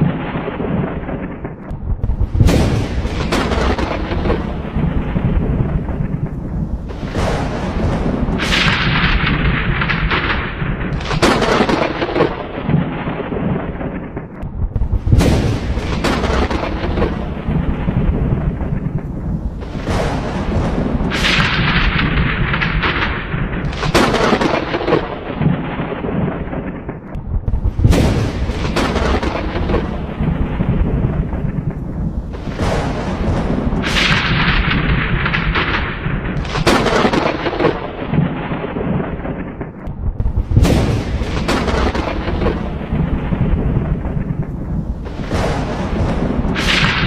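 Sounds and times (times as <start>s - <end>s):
thunder cracking and rumbling: 0.0s - 47.0s.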